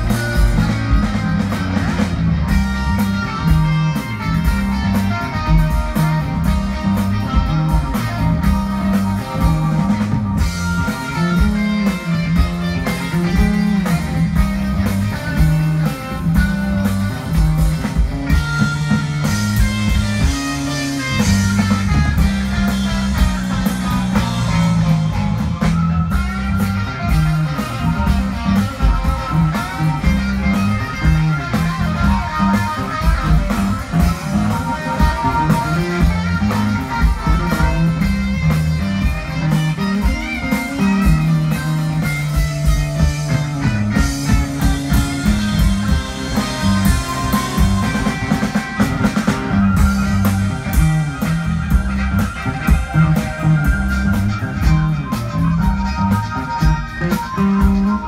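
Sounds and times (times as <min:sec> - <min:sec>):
bass line: 0:00.0 - 0:58.0
drum kit: 0:00.0 - 0:58.0
electric guitar: 0:00.0 - 0:58.0
live rock band playing: 0:00.0 - 0:58.0.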